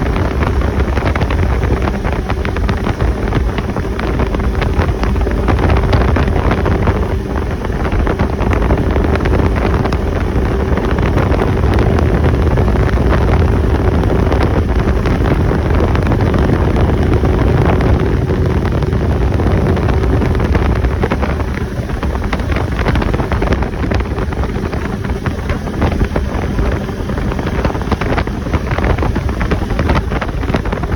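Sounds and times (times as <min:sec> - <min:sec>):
atv engine running: 0:00.0 - 0:30.9
wind rushing over microphone: 0:00.0 - 0:30.9.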